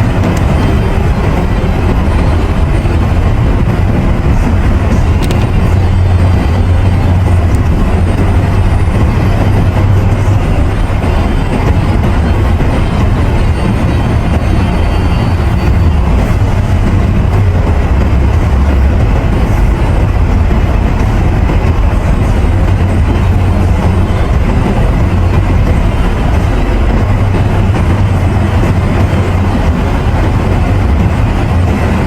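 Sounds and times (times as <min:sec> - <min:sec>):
road and tyre noise in moving car: 0:00.0 - 0:32.0.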